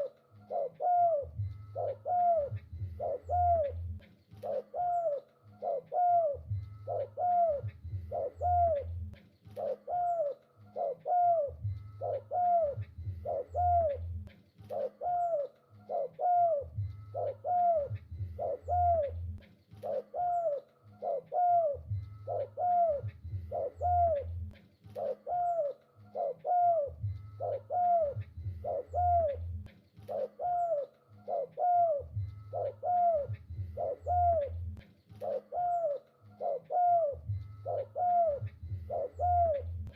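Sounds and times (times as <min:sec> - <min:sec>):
deeper low dove notes: 0:00.0 - 0:39.9
dove cooing: 0:00.0 - 0:39.9.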